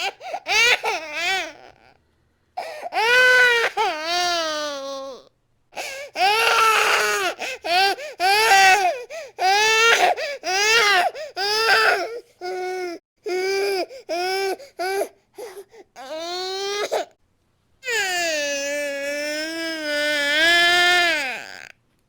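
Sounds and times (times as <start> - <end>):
baby crying: 0.0 - 1.9, 2.6 - 17.1, 17.8 - 21.7.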